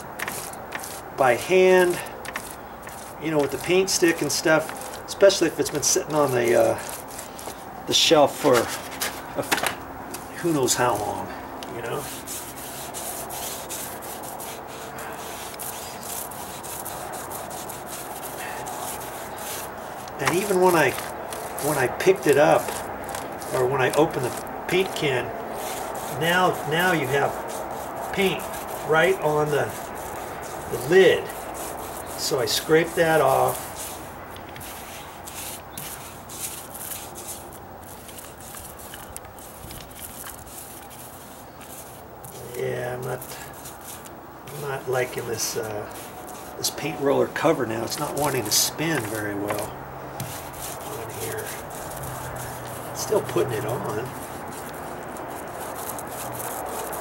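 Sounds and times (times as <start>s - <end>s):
paint roller rolling on wood: 0.0s - 57.0s.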